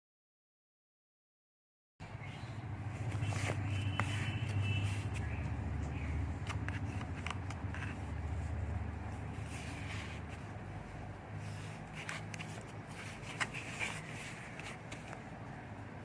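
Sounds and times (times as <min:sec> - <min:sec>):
low steady rumble: 0:02.3 - 0:16.0.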